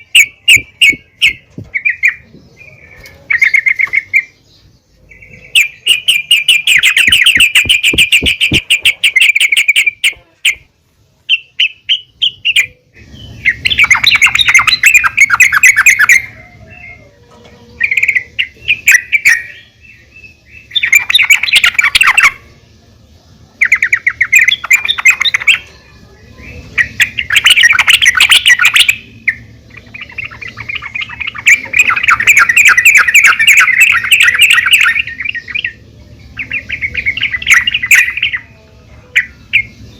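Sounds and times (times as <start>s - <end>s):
bulbul bubbly chatter: 0.0s - 39.9s.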